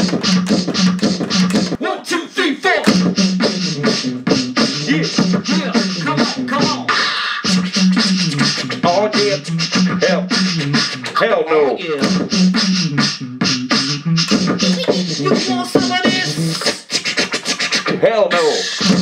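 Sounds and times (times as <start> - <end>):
repeating bass line: 0.0 - 1.8, 2.9 - 16.7
looped beatbox rhythm: 0.0 - 19.0
scratch-like vocal sounds: 2.8 - 19.0.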